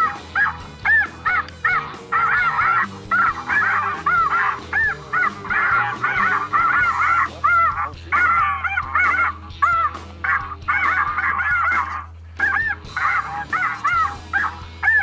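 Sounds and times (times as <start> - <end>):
background music: 0.0 - 15.0
geese honking: 0.0 - 15.0.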